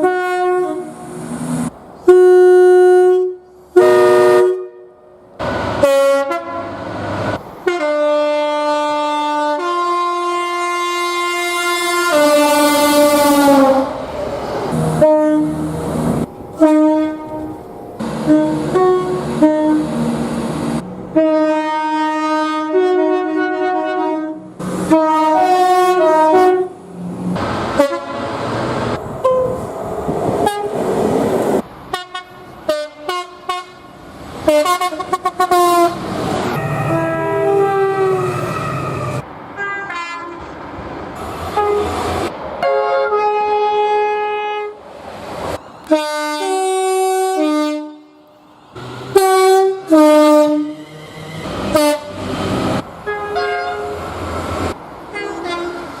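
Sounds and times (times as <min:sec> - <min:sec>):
train horns: 0:00.0 - 0:01.2, 0:02.0 - 0:05.1, 0:05.7 - 0:07.0, 0:07.6 - 0:14.1, 0:14.7 - 0:26.8, 0:27.6 - 0:29.6, 0:30.4 - 0:30.9, 0:31.9 - 0:40.6, 0:41.5 - 0:44.8, 0:45.8 - 0:55.9.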